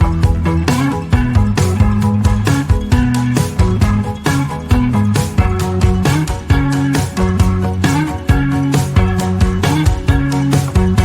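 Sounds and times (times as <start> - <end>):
bass line: 0.0 - 11.0
plucked guitar: 0.0 - 11.0
steady drum beat: 0.0 - 11.0.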